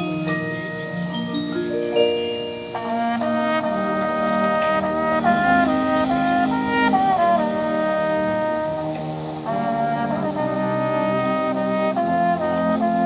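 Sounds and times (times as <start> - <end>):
brass playing slow held chords: 0.0 - 13.0.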